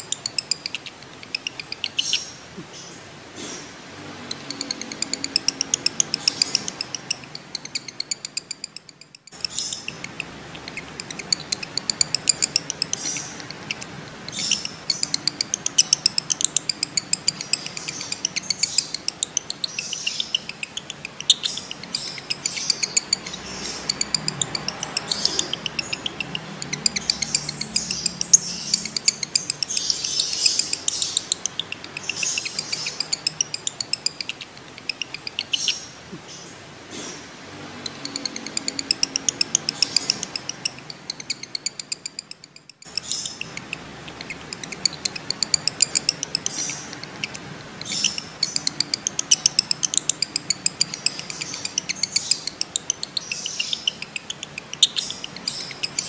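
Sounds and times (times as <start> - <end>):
lovebird chattering trills: 0.0 - 37.2, 37.8 - 56.0.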